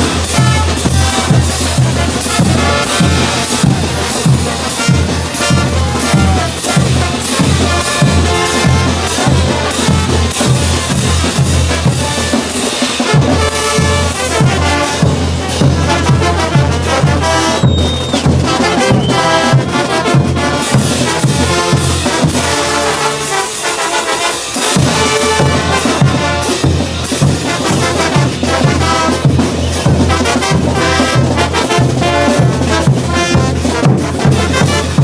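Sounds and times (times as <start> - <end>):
steady drum beat: 0.0 - 35.0
trumpets and trombones: 0.0 - 35.0.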